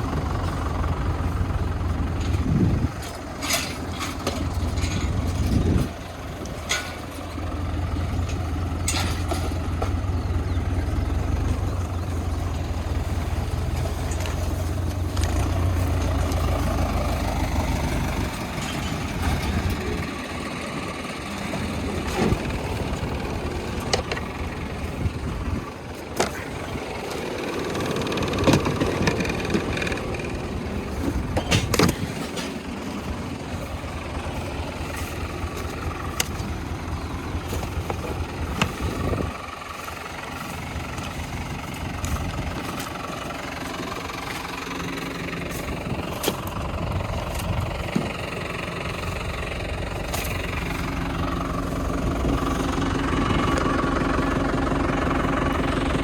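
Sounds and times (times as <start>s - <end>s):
machinery clicks and knocks: 0.0s - 56.0s
tractor engine running: 0.0s - 56.0s.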